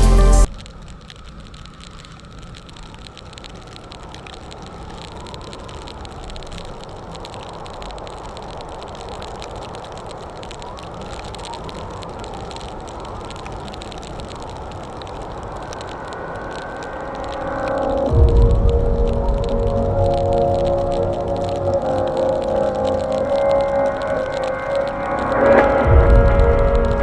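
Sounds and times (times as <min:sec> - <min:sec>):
motorcycle engine and road noise: 0:00.4 - 0:27.0
wind rushing over microphone: 0:04.2 - 0:27.0.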